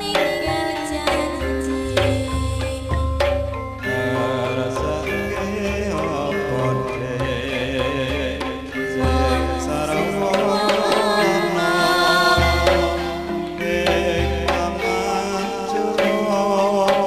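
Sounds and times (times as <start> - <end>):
metallophones ringing melody: 0.0 - 17.0
person singing: 0.0 - 17.0.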